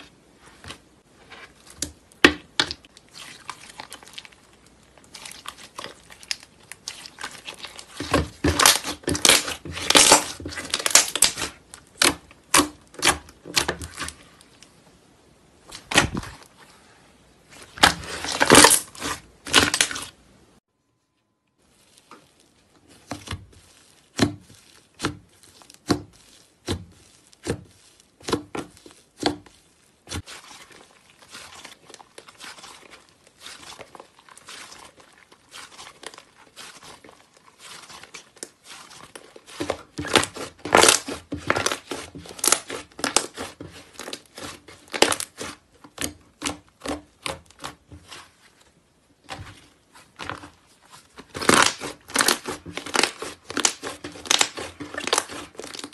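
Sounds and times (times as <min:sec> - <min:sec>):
slime popping and crackling: 0:01.6 - 0:14.2, 0:17.6 - 0:20.2, 0:21.7 - 0:48.4, 0:49.2 - 0:55.9.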